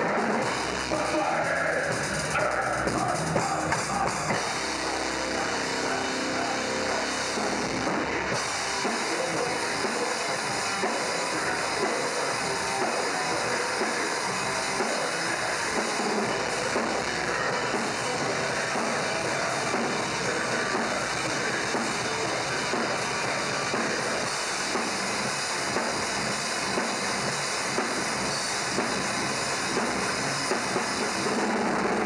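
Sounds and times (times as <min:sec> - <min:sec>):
death metal band playing: 0:00.0 - 0:32.0
drumming and cymbals: 0:00.0 - 0:32.0.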